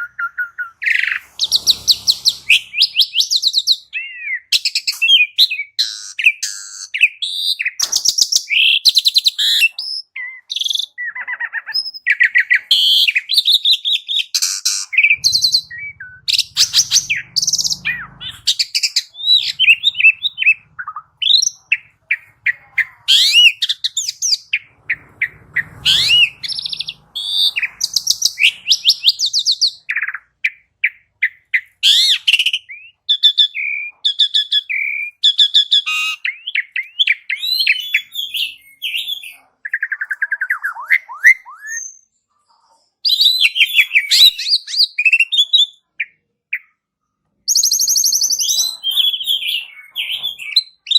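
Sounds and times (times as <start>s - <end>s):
starling singing: 0.0s - 42.0s, 47.5s - 50.9s.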